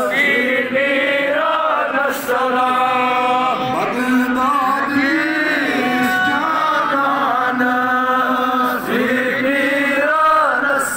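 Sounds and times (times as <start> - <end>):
man chanting into microphone: 0.0 - 10.9.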